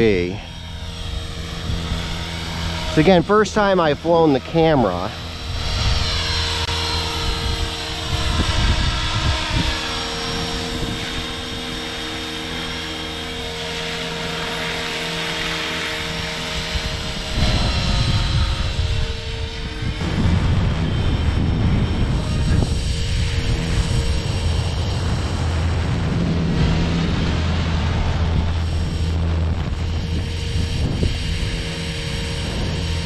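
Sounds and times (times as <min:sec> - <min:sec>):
rc helicopter rotor whine: 0:00.0 - 0:33.0
wind on microphone: 0:00.0 - 0:33.0.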